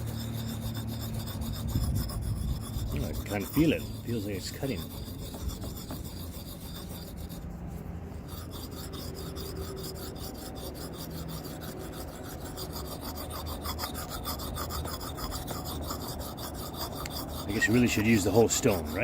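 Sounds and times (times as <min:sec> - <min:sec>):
blade rasping on whetstone: 0:00.0 - 0:19.0.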